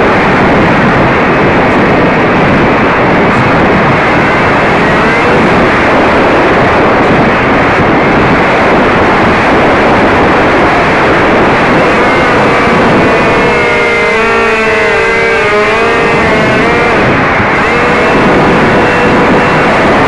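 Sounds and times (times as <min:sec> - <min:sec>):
motor whine: 0:00.0 - 0:20.0
propeller noise: 0:00.0 - 0:20.0
wind rush: 0:00.0 - 0:20.0.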